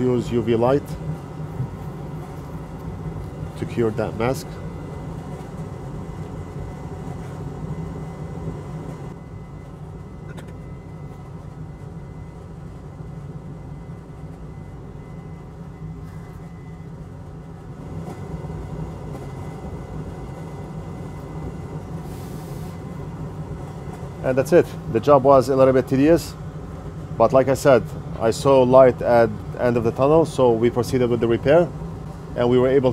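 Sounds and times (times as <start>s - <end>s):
low machine hum: 0.0s - 32.9s.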